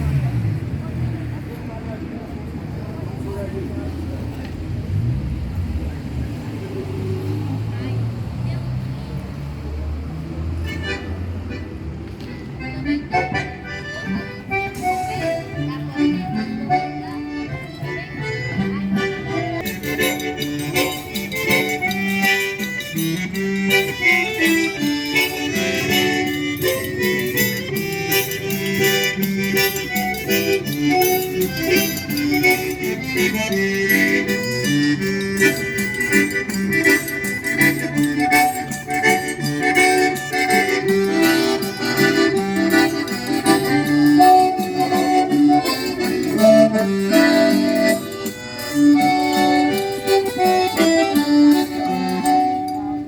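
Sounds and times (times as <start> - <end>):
accordion playing lively tune: 9.2 - 53.0.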